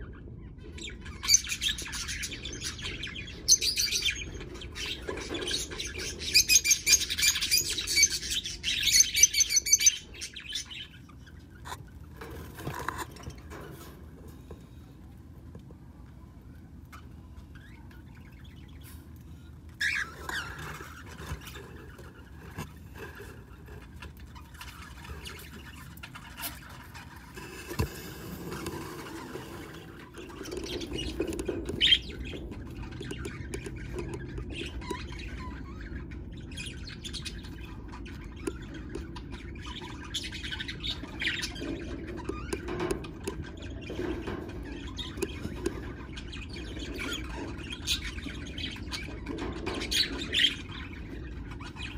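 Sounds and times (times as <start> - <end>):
budgerigars chirping: 0.1 - 13.8, 16.9 - 51.9.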